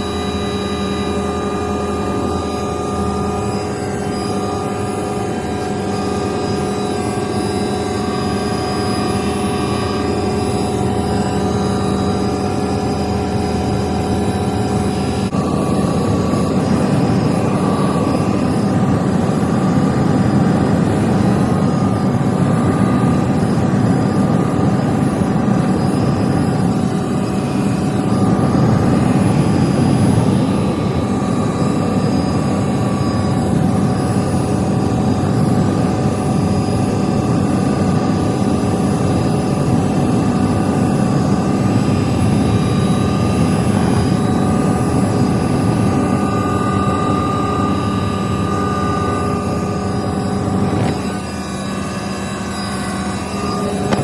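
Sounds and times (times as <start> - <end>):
helicopter rotor and engine noise: 0.0 - 54.0
thin steady whine: 0.0 - 54.0.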